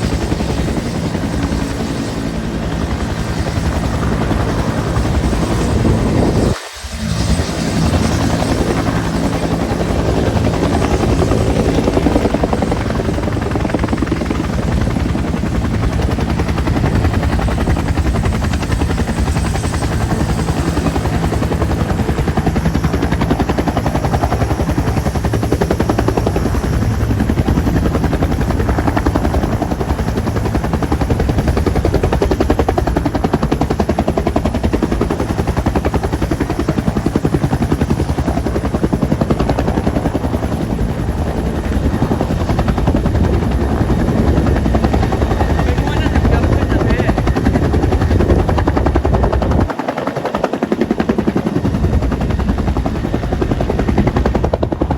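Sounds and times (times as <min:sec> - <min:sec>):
helicopter rotor chopping: 0:00.0 - 0:54.9
helicopter turbine engine whine: 0:00.0 - 0:54.9.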